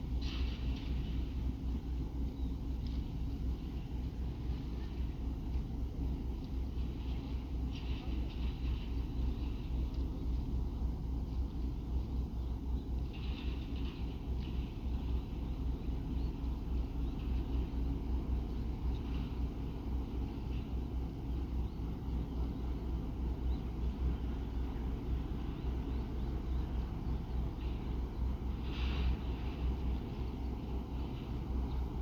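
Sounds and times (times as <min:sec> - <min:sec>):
ferry engines rumbling: 0:00.0 - 0:32.0.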